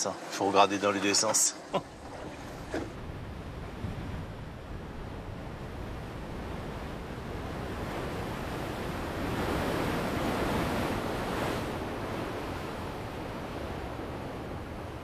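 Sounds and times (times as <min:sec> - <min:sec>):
ocean surf wash: 0:00.0 - 0:15.0
wave breaking: 0:00.0 - 0:15.0.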